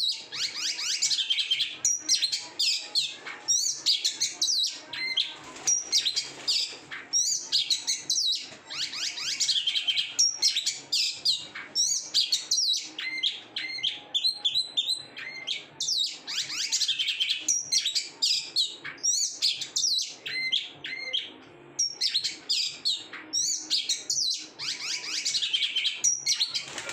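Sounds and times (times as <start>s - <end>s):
songbird singing rapid whistles: 0.0s - 26.9s.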